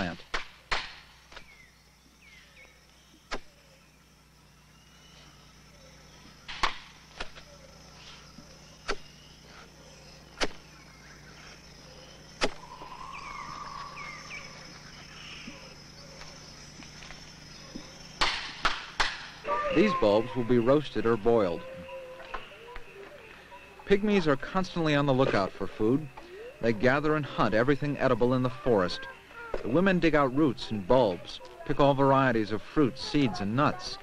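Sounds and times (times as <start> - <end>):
bird-like chirps: 0.0 - 34.0
high insect drone: 0.0 - 34.0.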